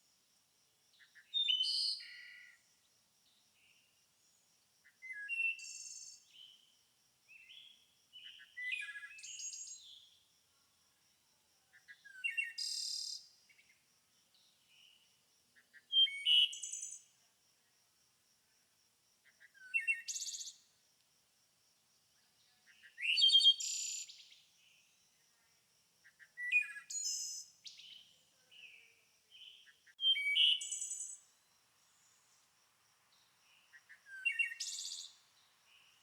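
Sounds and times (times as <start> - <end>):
songbird singing: 0.9 - 6.7, 7.3 - 10.3, 11.6 - 17.2, 19.2 - 20.7, 22.2 - 36.0.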